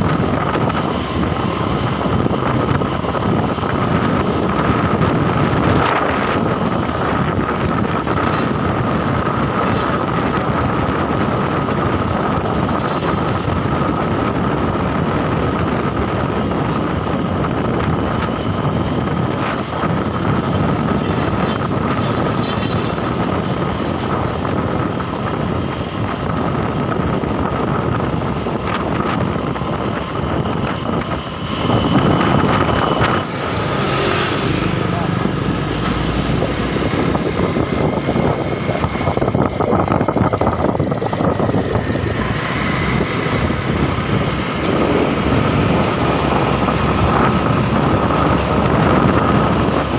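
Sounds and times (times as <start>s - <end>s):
highway traffic passing: 0.0s - 49.9s.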